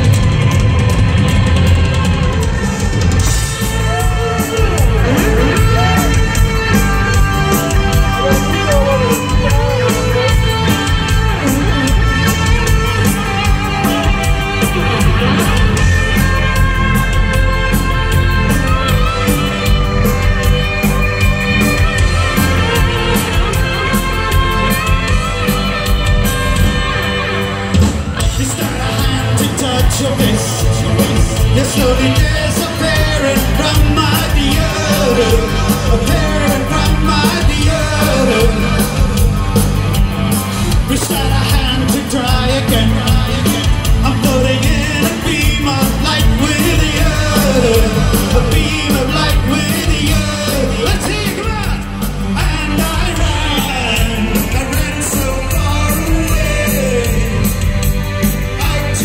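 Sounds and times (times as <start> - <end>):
live rock band playing: 0.0 - 59.0
male lead vocal: 2.2 - 25.3, 28.1 - 39.6, 40.4 - 59.0.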